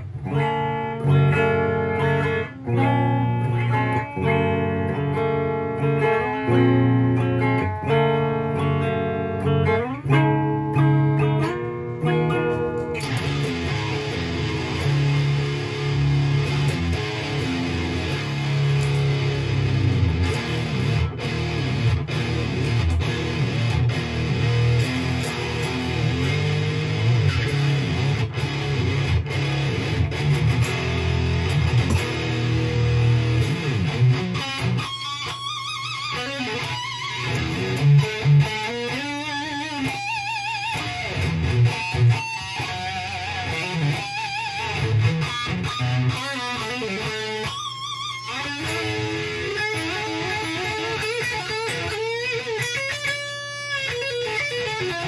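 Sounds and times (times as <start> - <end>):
electric guitar playing: 0.0 - 55.0.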